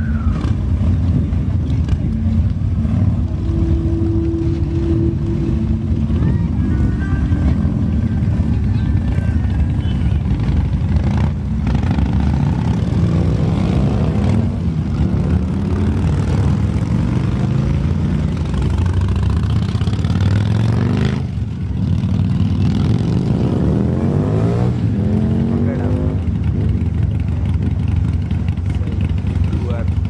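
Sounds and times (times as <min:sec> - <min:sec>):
superbike engines revving: 0:00.0 - 0:30.0.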